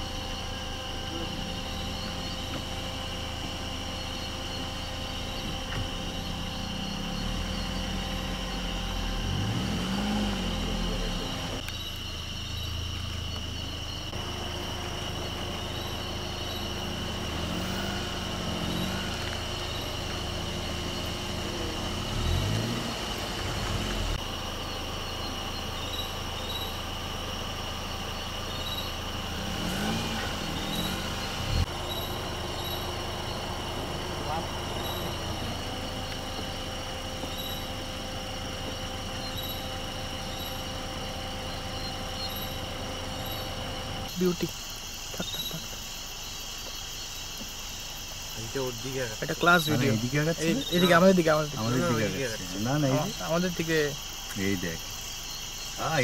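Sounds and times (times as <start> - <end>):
vehicle engine idling and revving: 0.0 - 56.0.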